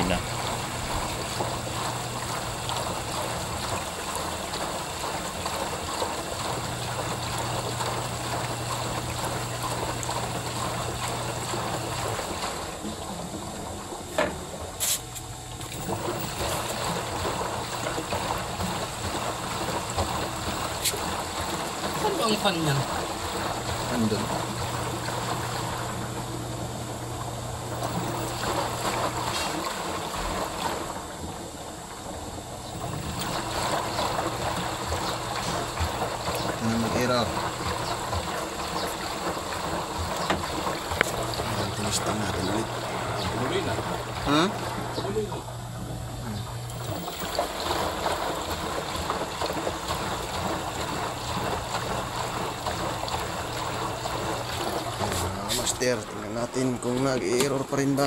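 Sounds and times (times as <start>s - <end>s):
steady low hum: 0.0s - 58.0s
washing machine water sloshing: 0.0s - 58.0s.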